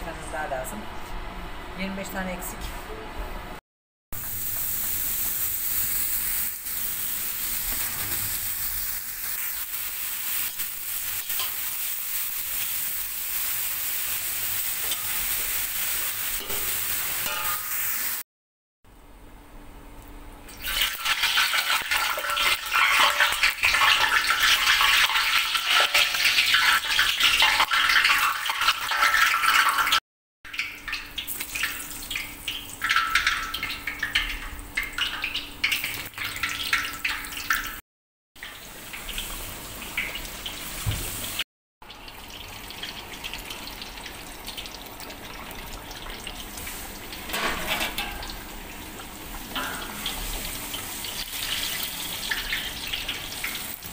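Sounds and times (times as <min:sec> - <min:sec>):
food deep-frying in oil sizzling: 0:04.1 - 0:18.2, 0:20.5 - 0:37.8, 0:38.4 - 0:53.9.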